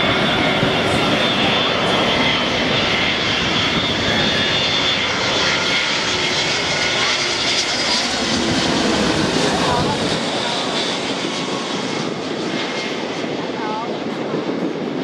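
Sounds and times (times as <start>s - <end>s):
jet roar overhead: 0.0s - 15.0s.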